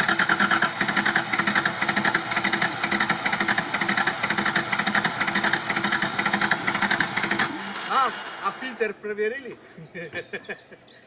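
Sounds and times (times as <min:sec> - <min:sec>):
truck engine cranking by starter: 0:00.0 - 0:08.9.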